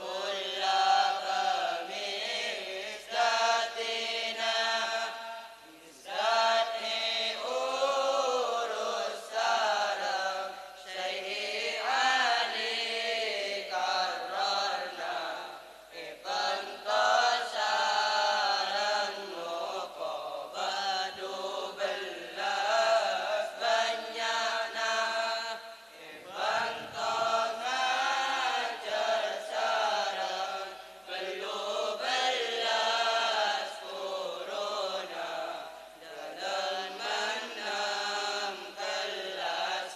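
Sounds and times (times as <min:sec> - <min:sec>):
boys chanting verse together: 0:00.0 - 0:39.9.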